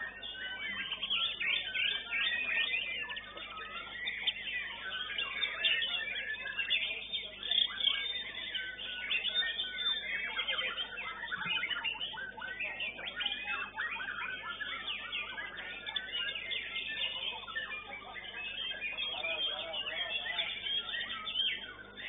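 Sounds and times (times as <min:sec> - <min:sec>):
birds whistling and chirping: 0:00.0 - 0:22.0.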